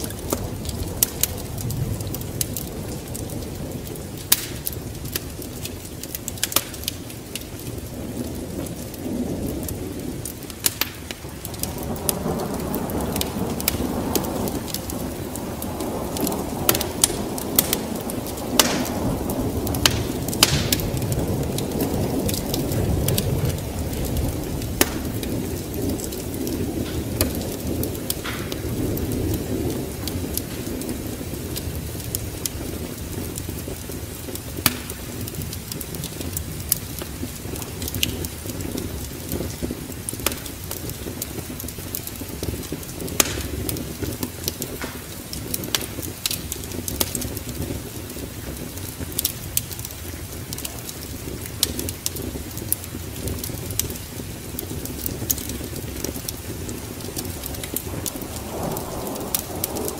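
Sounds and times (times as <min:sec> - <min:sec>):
low rumble of rain and storm: 0:00.0 - 0:59.9
wood fire crackling: 0:00.0 - 0:59.9.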